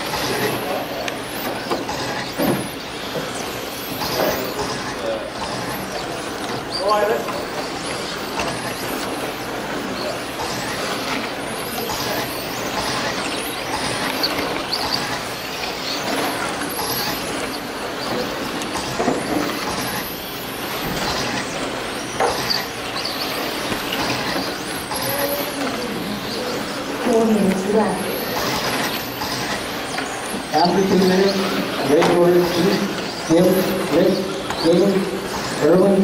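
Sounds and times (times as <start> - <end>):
electric rc cars whining: 0.0 - 36.0.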